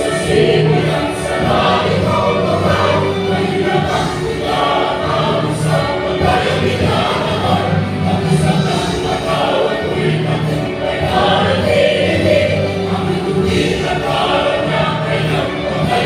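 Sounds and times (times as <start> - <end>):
choir singing worship music: 0.0 - 16.0.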